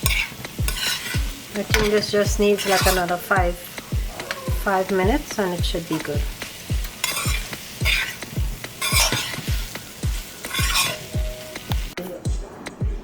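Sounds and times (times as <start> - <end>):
beans sizzling in a pot: 0.0 - 12.2
background music with deep beat: 0.0 - 13.0.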